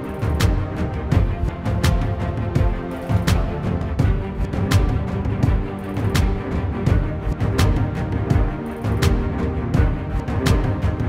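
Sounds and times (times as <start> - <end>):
background music with low notes: 0.0 - 11.0.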